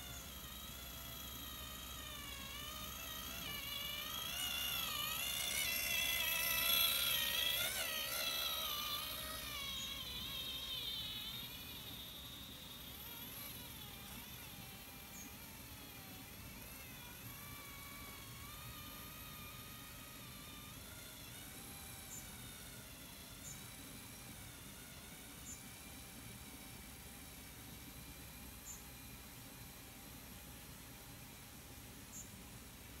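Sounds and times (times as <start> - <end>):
electric model tractor whining: 0.0 - 31.6.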